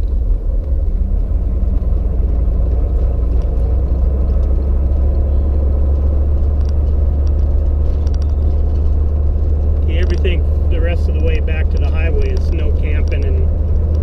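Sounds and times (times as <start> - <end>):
vehicle engine and tyres rumbling: 0.0 - 14.0.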